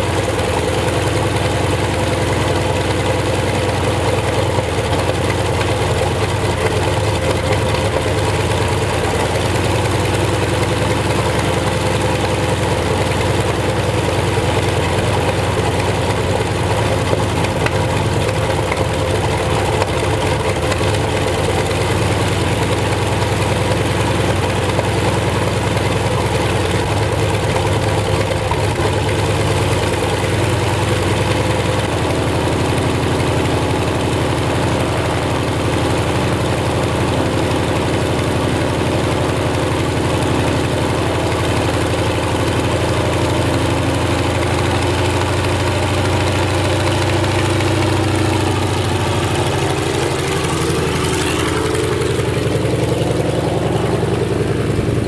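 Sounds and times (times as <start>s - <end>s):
radial aircraft engine idling: 0.0s - 55.0s.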